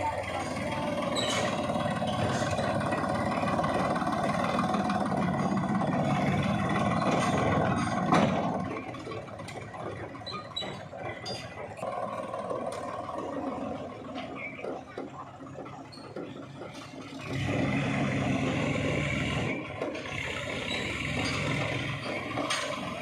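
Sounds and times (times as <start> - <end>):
heavy machinery engine: 0.0 - 23.0.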